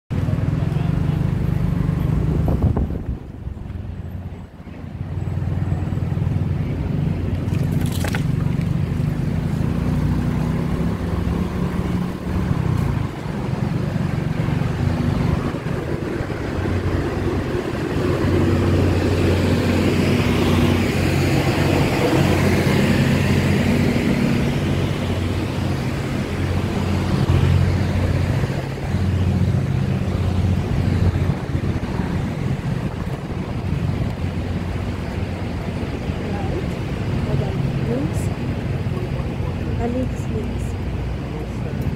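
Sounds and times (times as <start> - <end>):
road and wind noise: 0.1 - 41.9
vehicle engine running: 0.1 - 41.9.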